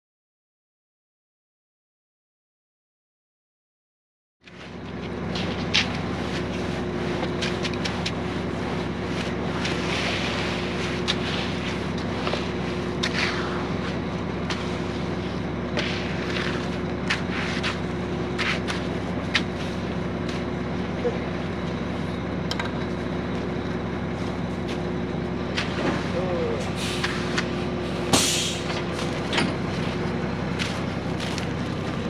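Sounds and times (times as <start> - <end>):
truck engine running: 4.5 - 32.0.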